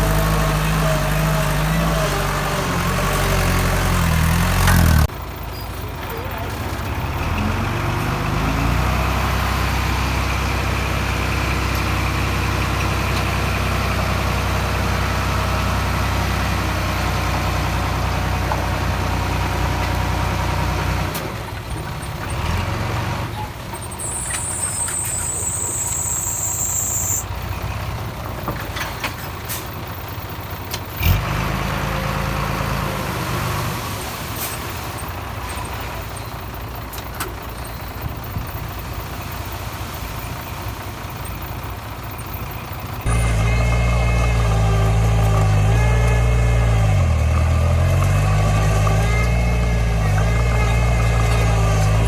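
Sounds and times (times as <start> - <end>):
heavy machinery diesel engine: 0.0 - 52.0.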